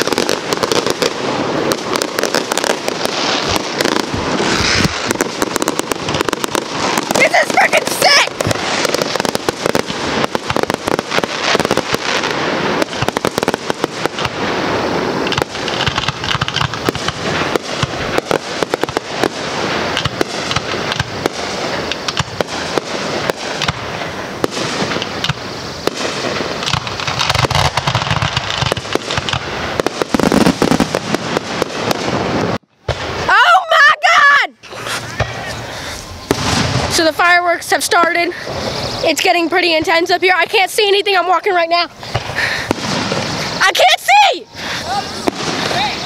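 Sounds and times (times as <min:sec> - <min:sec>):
fireworks bangs and pops: 0:00.0 - 0:46.0.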